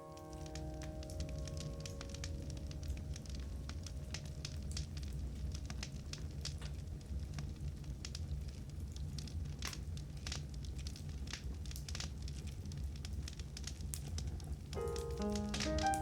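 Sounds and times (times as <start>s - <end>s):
logs crackling and popping: 0.2s - 16.0s
low rumble of flames: 0.3s - 16.0s.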